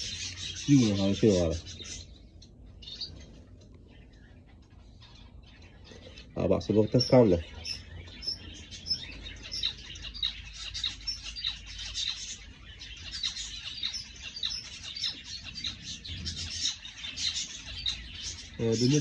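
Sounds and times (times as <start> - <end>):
finches chirping: 0.0 - 19.0.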